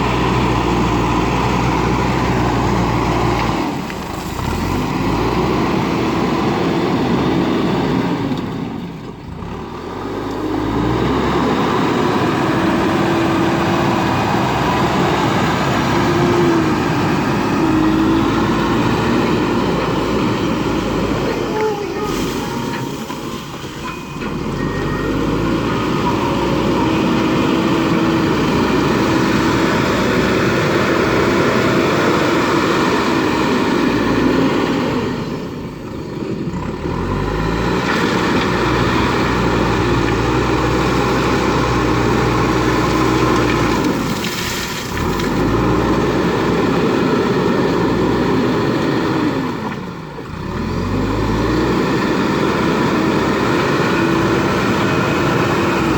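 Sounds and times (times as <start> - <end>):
diesel engine revving under load: 0.0 - 55.9.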